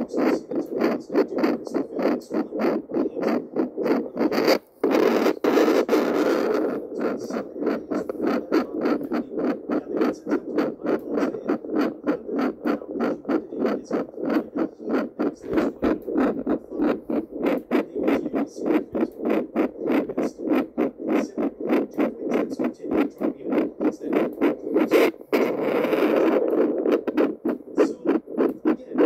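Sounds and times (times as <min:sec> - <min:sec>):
heartbeat whooshing pulses: 0:00.0 - 0:29.0.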